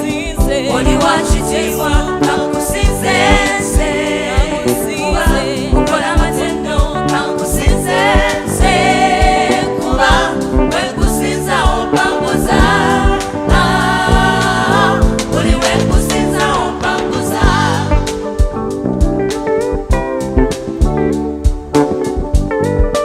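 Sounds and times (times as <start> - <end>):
voices singing gospel: 0.0 - 18.6
band playing: 0.0 - 23.0
steady drum beat: 0.1 - 23.0.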